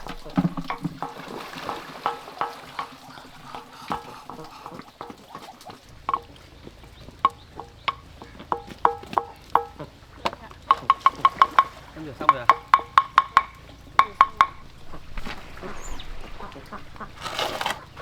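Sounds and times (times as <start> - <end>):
utensils tapping a hard vessel: 0.0 - 15.2.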